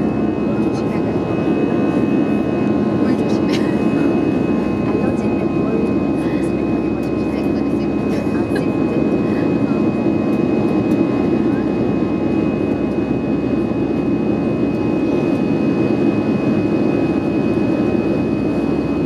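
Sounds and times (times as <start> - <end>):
high engine whine: 0.0 - 19.0
jet engine drone in cabin: 0.0 - 19.0.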